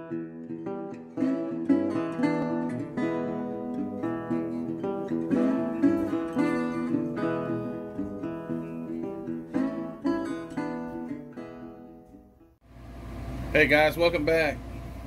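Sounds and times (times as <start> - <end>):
acoustic guitar strumming: 0.0 - 12.5.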